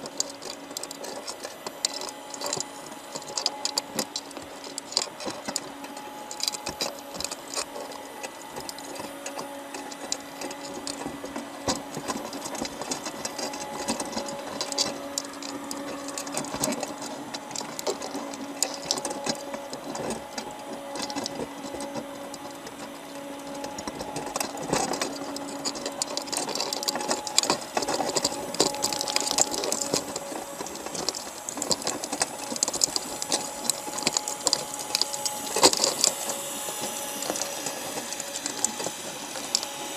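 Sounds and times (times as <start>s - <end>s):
crabs clicking and scraping: 0.0s - 39.9s
faint steady hum: 0.0s - 39.9s.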